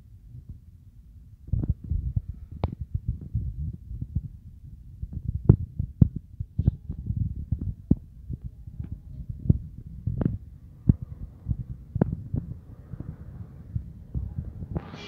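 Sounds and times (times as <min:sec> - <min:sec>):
low rumbling microphone noise: 0:00.0 - 0:15.0.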